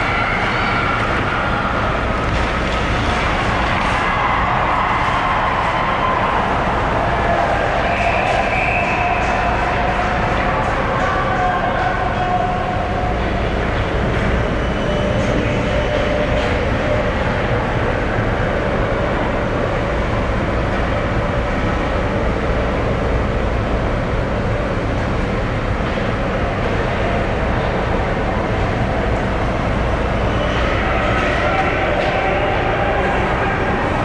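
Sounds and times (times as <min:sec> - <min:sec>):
ice arena background rumble: 0:00.0 - 0:34.0.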